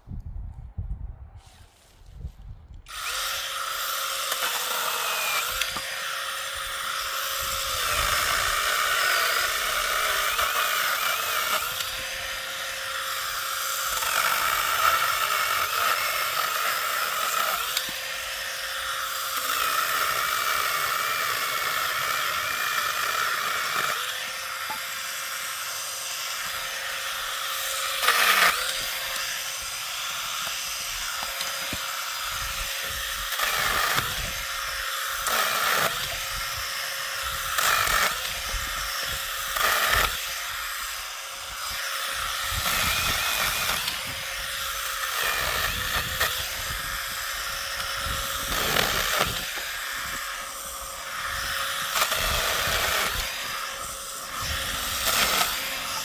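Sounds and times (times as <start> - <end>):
electric saw cutting wood: 2.8 - 56.0.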